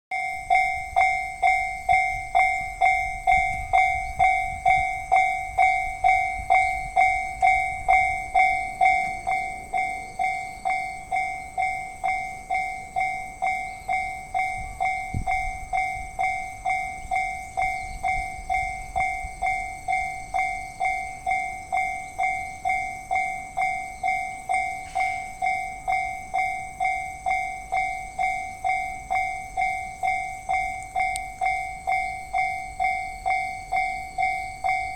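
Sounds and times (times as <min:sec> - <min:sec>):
level crossing warning bell: 0:00.1 - 0:34.9.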